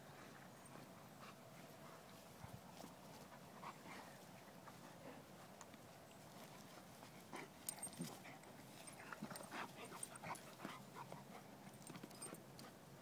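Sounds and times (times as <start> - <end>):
dogs scuffling on grass: 0.2 - 12.8.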